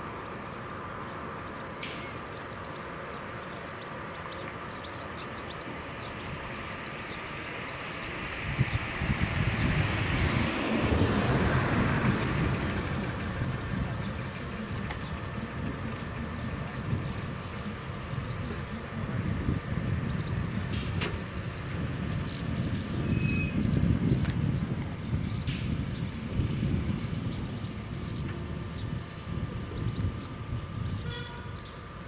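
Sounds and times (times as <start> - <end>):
small birds chirping: 0.0 - 32.0
car engine idling: 3.0 - 32.0
wind buffeting microphone: 5.3 - 32.0.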